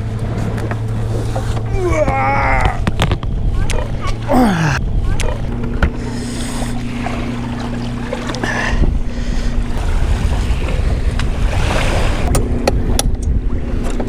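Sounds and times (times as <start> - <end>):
low motor hum: 0.0 - 14.0
wind buffeting microphone: 0.0 - 14.0.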